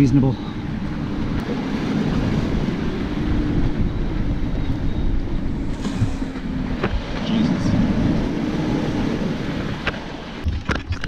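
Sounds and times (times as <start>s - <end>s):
waves rushing along hull: 0.0s - 11.0s
wind buffeting microphone: 0.0s - 11.0s.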